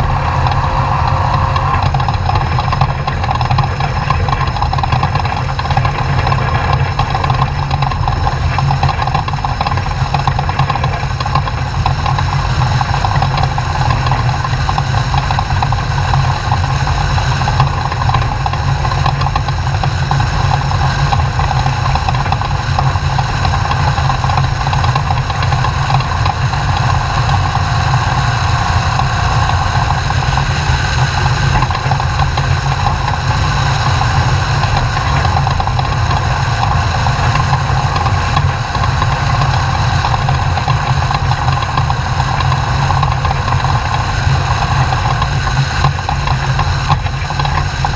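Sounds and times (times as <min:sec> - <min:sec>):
truck engine running steadily: 0:00.0 - 0:47.9.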